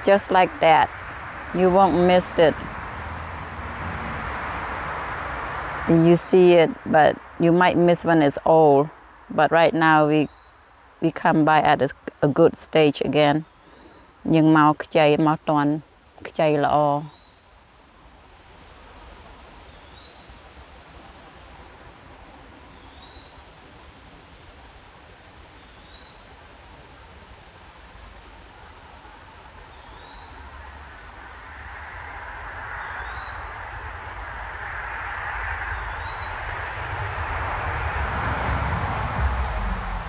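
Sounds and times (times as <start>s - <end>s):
crickets trilling: 0.0s - 40.0s
vehicle road noise: 0.0s - 40.0s.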